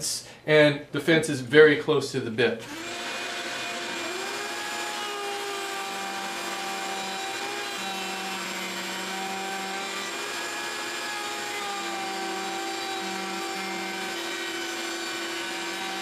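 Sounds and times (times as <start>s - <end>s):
router whining: 2.6s - 16.0s
shop vacuum running: 2.6s - 16.0s.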